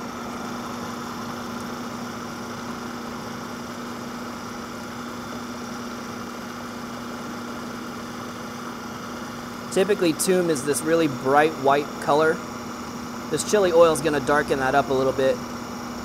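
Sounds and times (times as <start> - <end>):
food processor motor hum: 0.0 - 16.0.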